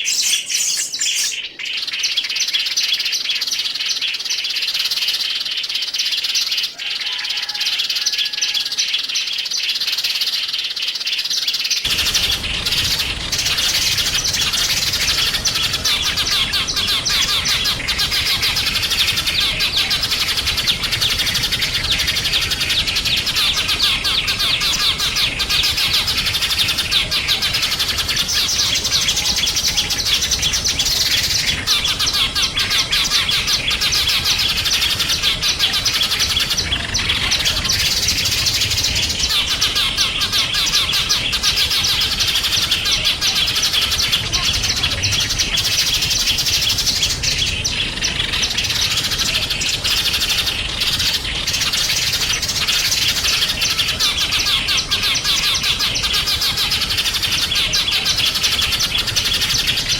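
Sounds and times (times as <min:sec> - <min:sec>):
songbirds chirping in chorus: 0:00.0 - 0:59.9.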